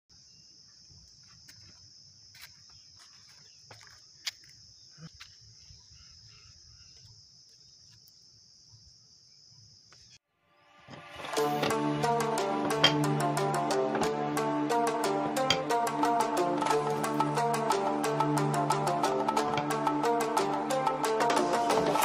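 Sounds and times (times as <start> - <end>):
insects droning: 0.1 - 22.0.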